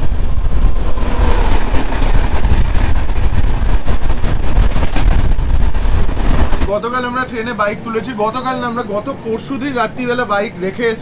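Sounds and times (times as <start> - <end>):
train rumbling along track: 0.0 - 11.0.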